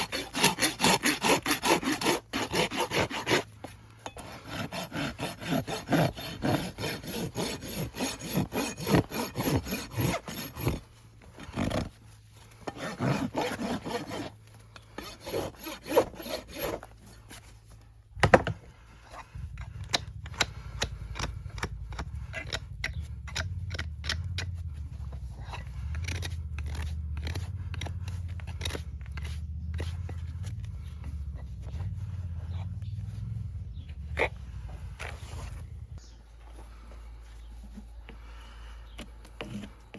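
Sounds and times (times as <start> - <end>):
rasp filing a hoof: 0.0 - 18.4, 19.0 - 35.8, 38.9 - 39.9
low steady hum: 0.0 - 39.9.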